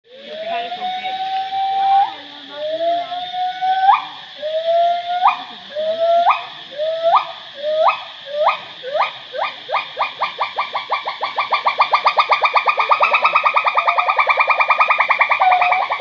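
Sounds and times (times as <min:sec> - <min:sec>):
gibbon whooping call: 0:00.1 - 0:16.0
steady high hiss: 0:00.1 - 0:16.0.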